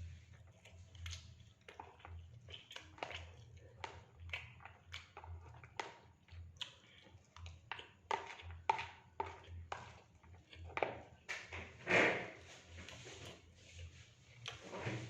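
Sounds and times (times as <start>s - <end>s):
wet chewing: 0.1s - 11.6s, 12.3s - 15.0s.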